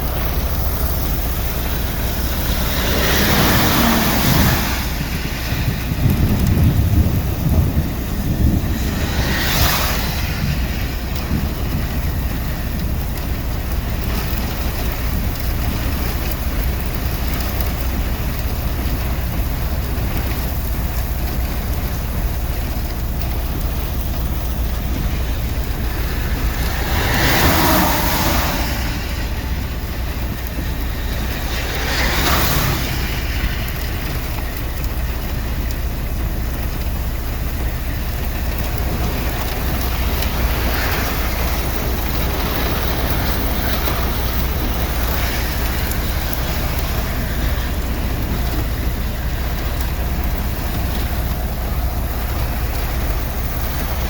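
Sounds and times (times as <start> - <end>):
rain: 0.0 - 54.0
wind buffeting microphone: 0.0 - 54.0.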